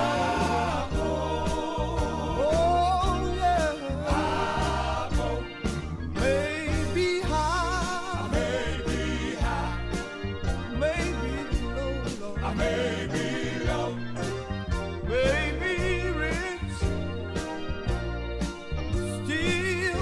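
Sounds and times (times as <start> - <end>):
steady drum beat: 0.0 - 18.2
bass: 0.0 - 20.0.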